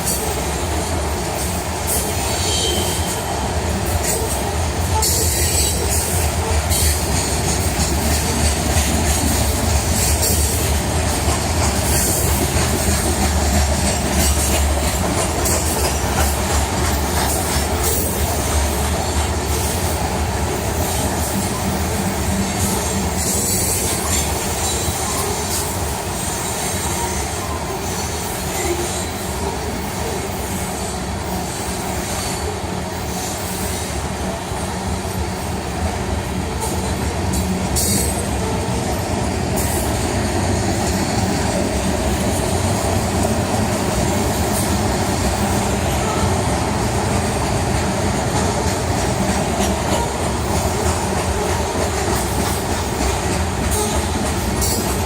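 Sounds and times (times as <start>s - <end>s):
freight train rolling past: 0.0s - 55.0s
steel wheels rattling on rails: 0.0s - 55.0s.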